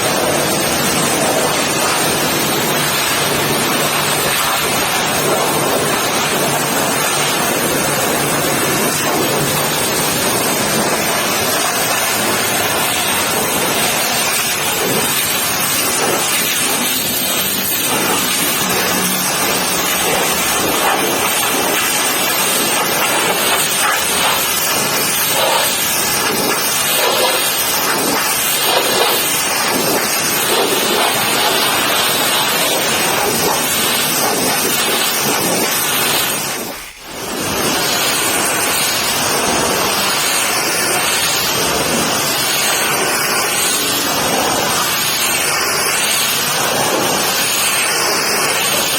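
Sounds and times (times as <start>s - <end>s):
pressure washer spraying water: 0.0s - 48.9s.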